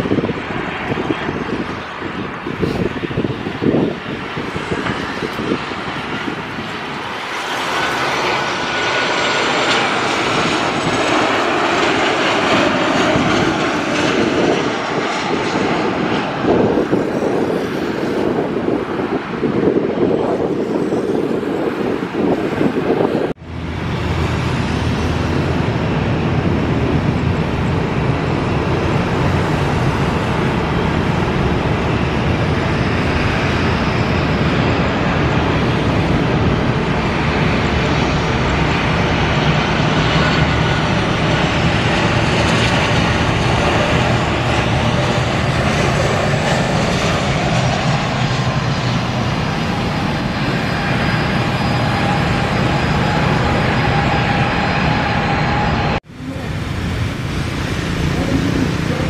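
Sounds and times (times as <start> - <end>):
jet engine rushing noise: 0.0 - 59.0.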